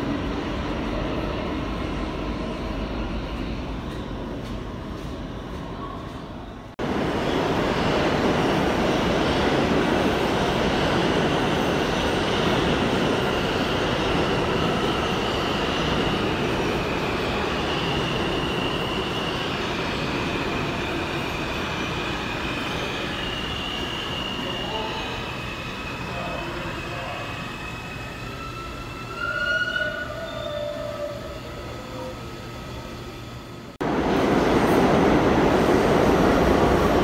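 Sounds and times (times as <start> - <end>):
subway train rumbling: 0.0 - 37.0.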